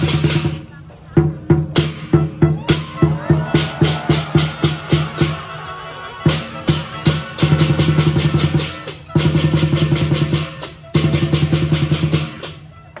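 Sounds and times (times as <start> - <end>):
drum beats and rolls: 0.0 - 13.0.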